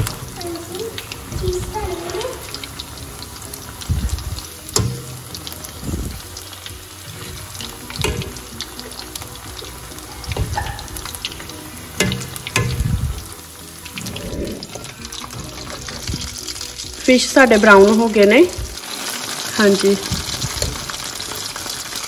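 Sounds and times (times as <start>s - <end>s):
fish deep-frying in oil: 0.0s - 22.0s.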